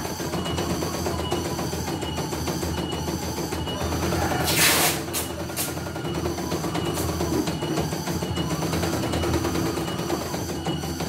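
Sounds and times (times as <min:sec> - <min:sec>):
machine motor hum: 0:00.0 - 0:11.0.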